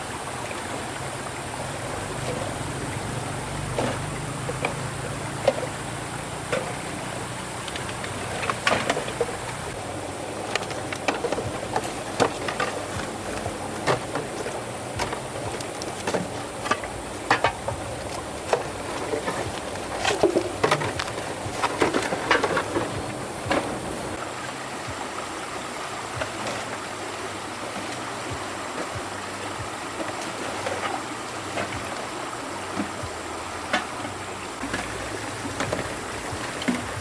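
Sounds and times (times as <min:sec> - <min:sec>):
background hiss: 0:00.0 - 0:37.0.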